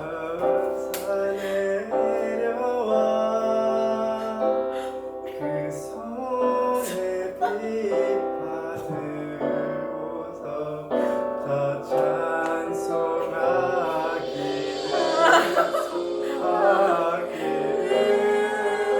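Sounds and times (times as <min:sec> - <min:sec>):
people singing carols over piano: 0:00.0 - 0:18.9.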